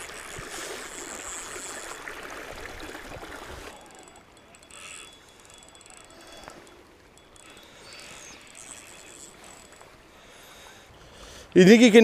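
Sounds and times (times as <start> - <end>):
river water rushing: 0.0 - 10.9.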